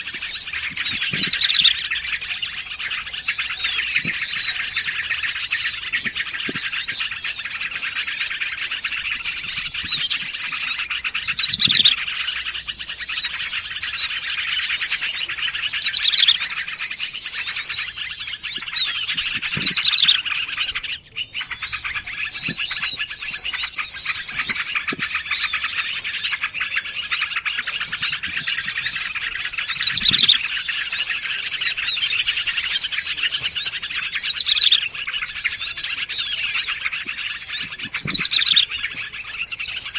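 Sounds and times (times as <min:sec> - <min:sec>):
high stuttering bird trill: 0:00.0 - 0:39.9
songbirds chirping and calling: 0:00.0 - 0:39.9.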